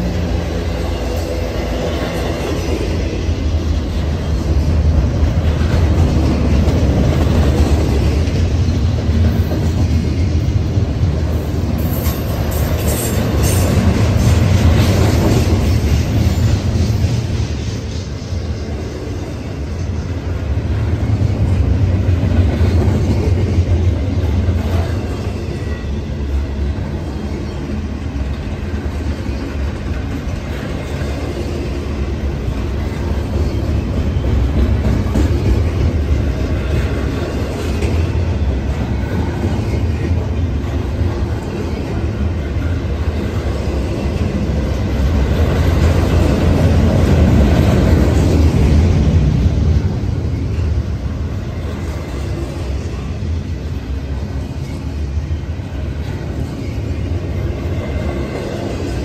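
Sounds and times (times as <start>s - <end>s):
wheels clickety-clack: 0.0s - 25.7s, 27.8s - 50.8s
train wheels rumbling on rails: 0.0s - 59.0s.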